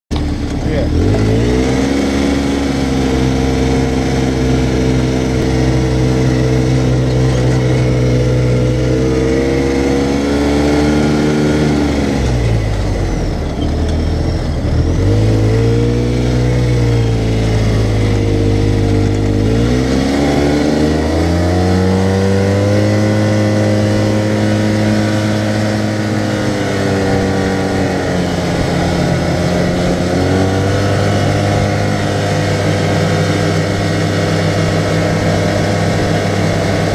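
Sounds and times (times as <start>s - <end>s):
utility vehicle engine running: 0.1s - 36.9s.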